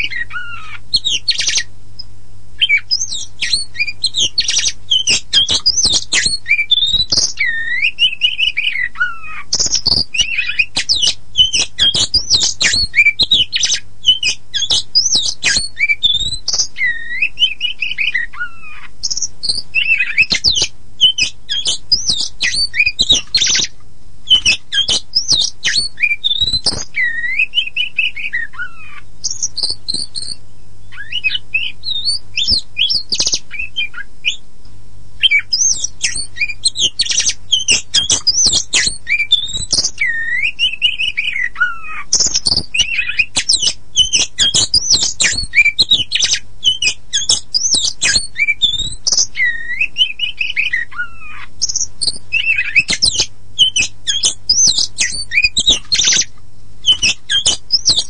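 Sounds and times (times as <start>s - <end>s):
bird singing whistles and chatters: 0.0s - 1.7s, 2.6s - 34.4s, 35.2s - 58.0s
faint low hum: 0.0s - 58.0s.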